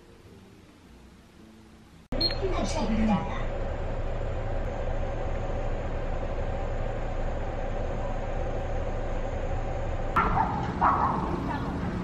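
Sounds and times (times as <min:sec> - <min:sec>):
transit vehicle rumble and hum: 0:02.2 - 0:12.0.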